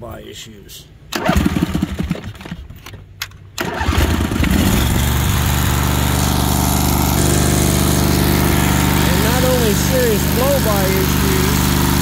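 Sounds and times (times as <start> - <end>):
lawn mower engine cranking and running: 1.1 - 12.0.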